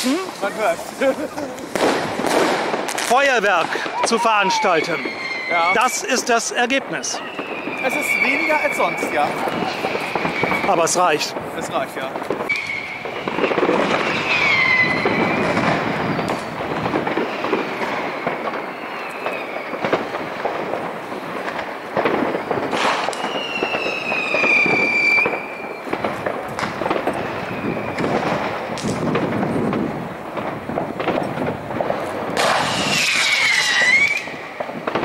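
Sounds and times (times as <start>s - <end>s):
firecracker bangs and crackling: 0.0s - 35.0s
whistling firework: 0.0s - 35.0s.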